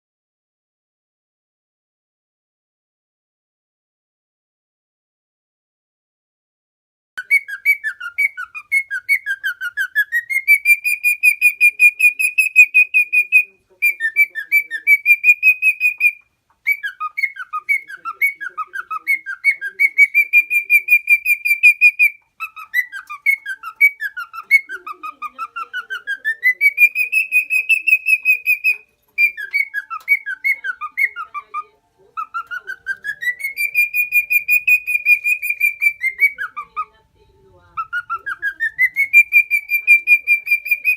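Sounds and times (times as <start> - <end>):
cockatiel whistling: 7.2 - 36.9, 37.8 - 40.9.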